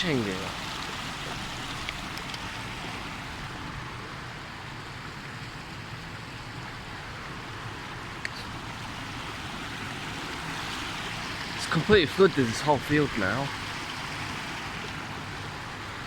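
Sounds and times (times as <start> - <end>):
floodwater gushing: 0.0 - 16.0.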